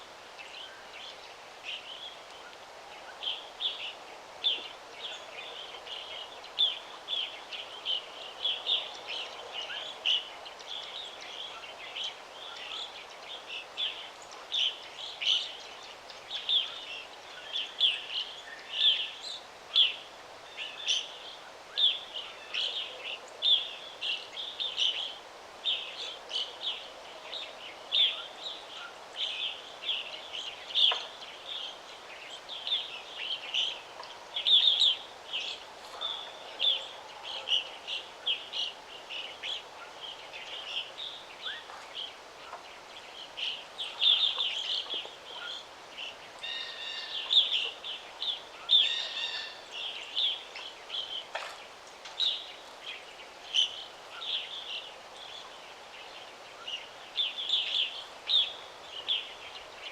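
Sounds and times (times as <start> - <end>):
background hiss: 0.0 - 59.9
songbirds chirping: 0.0 - 59.9.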